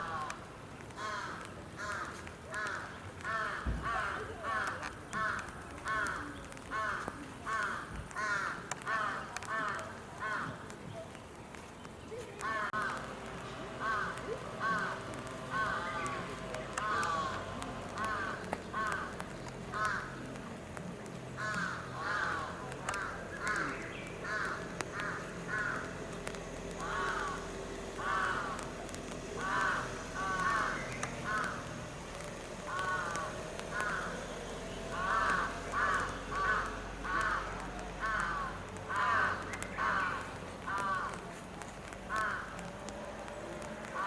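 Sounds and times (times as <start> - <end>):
crows cawing: 0.0 - 10.6, 12.4 - 13.1, 13.8 - 20.3, 21.4 - 28.8, 29.4 - 31.9, 32.6 - 41.4, 42.1 - 42.9.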